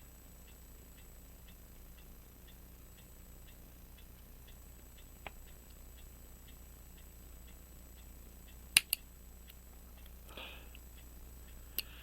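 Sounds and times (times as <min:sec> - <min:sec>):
faint ticking: 0:00.0 - 0:12.0
sharp metallic clicks: 0:00.5 - 0:12.0.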